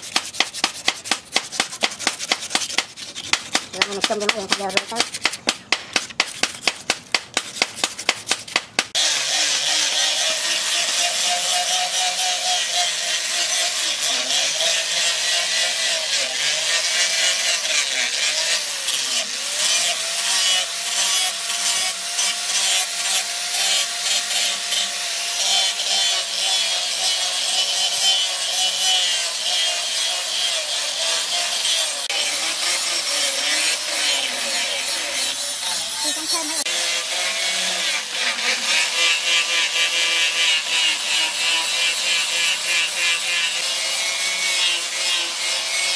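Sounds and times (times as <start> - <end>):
angle grinder sanding steel: 0.0 - 45.9
sandpaper rubbing on wood: 0.0 - 45.9.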